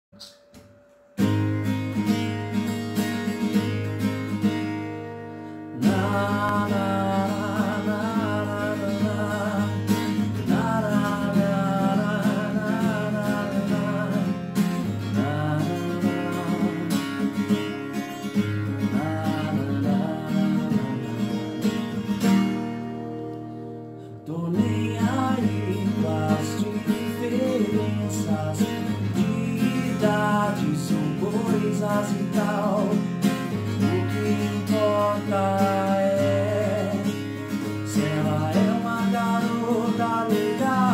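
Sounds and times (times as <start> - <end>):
acoustic guitar playing: 0.1 - 40.9
wavering wordless melody: 4.7 - 40.9.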